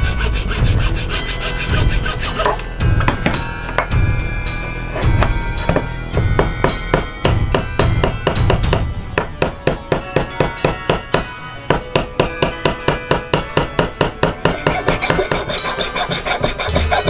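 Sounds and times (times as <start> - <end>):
file rasping on wood: 0.0 - 3.2, 4.8 - 17.0
hammer tapping wooden wedges: 2.2 - 4.0, 4.6 - 17.0.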